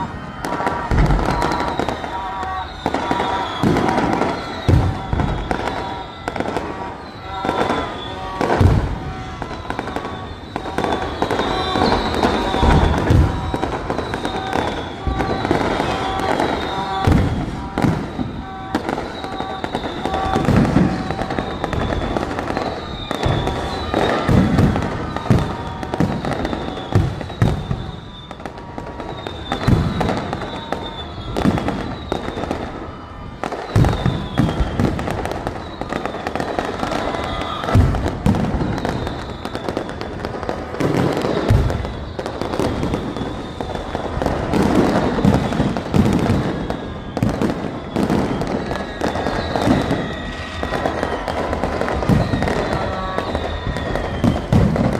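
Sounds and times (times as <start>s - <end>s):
falling firework whistles: 0.0s - 54.9s
fireworks bangs and crackles: 0.0s - 54.9s.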